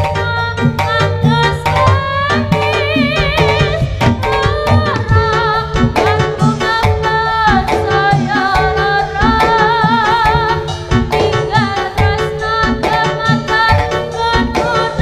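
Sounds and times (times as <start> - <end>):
gamelan percussion: 0.0 - 15.0
hand drumming: 0.0 - 15.0
person singing with vibrato: 0.0 - 15.0.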